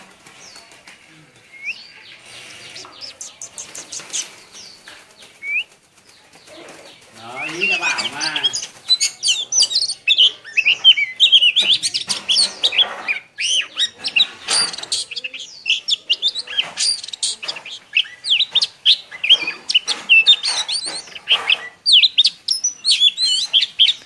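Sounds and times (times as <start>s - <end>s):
songbird singing rapid warbling notes: 1.5s - 5.7s, 7.2s - 24.0s.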